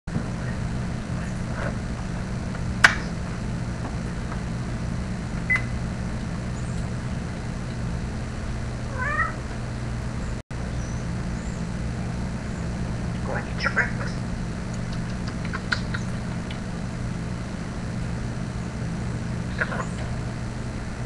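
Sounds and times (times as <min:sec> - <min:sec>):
low background rumble: 0:00.1 - 0:21.0.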